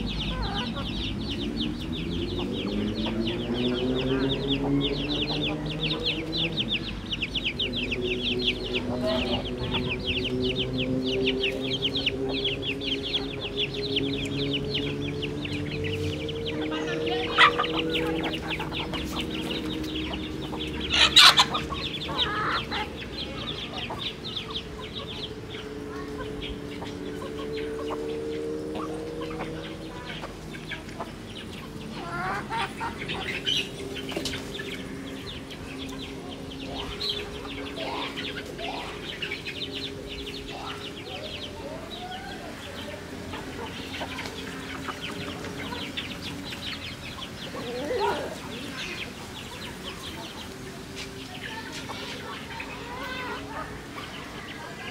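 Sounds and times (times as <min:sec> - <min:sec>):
hens clucking and squawking: 0:00.0 - 0:54.9.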